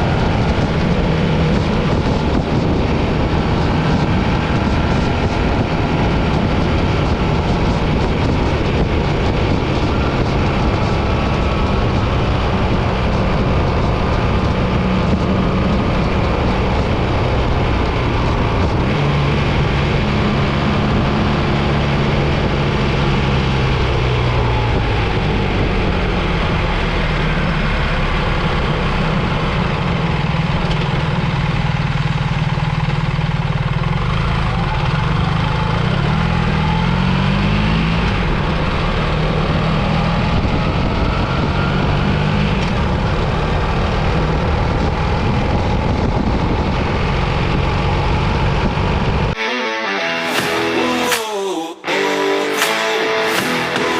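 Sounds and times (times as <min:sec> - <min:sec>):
wind noise: 0:00.0 - 0:31.4, 0:35.6 - 0:49.4
motorcycle engine running: 0:00.0 - 0:49.4
road noise: 0:00.0 - 0:53.9.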